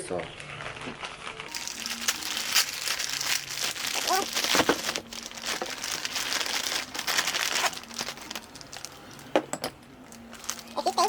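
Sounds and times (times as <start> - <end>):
crinkling handling noise: 0.3 - 11.0.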